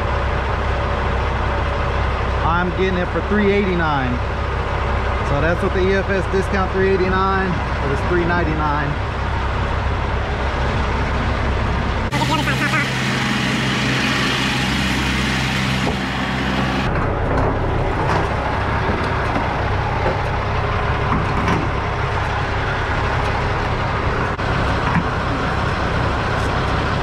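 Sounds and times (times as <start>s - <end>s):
low hum: 0.0s - 27.0s
truck engine rumble: 0.0s - 27.0s.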